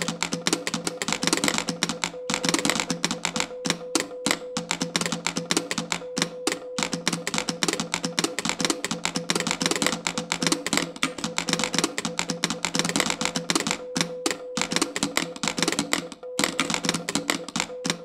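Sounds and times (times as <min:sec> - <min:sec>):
telegraph keys clattering: 0:00.0 - 0:18.0.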